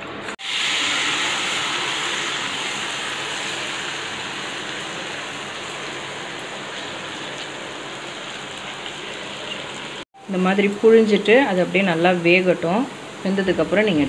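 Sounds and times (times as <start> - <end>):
hot oil sizzling: 0.3 - 14.0.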